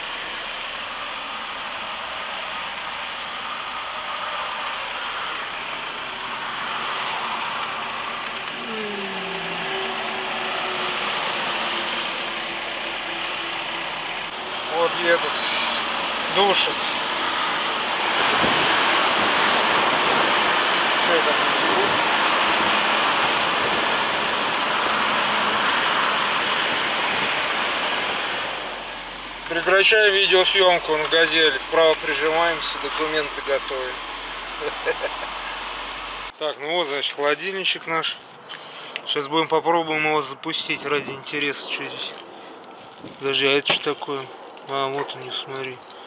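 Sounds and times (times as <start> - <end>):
traffic passing: 0.0 - 46.0
vehicle and road noise: 0.0 - 46.0.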